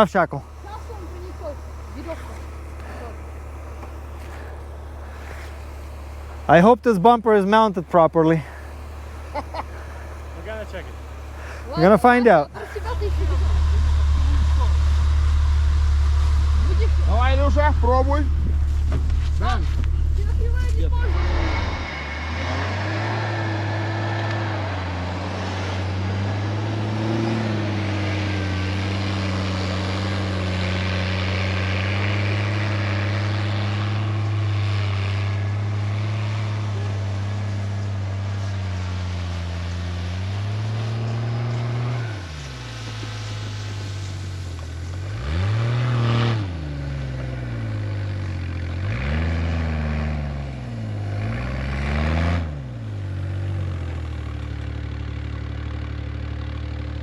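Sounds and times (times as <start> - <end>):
off-road engine revving under load: 0.0 - 57.0.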